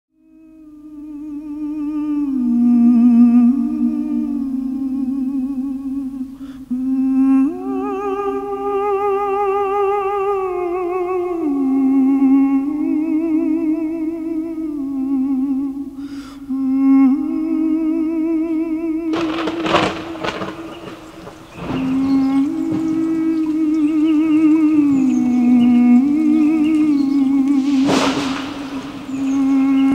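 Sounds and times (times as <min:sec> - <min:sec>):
person humming: 0:00.2 - 0:19.7, 0:21.9 - 0:29.9.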